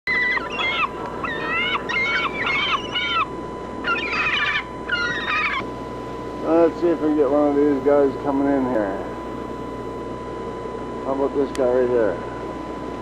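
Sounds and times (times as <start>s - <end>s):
gulls calling: 0.1s - 12.3s.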